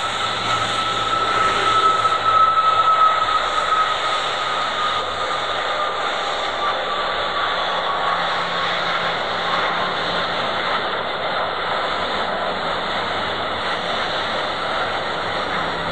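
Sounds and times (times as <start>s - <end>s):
jet engines at takeoff thrust: 0.0s - 15.9s.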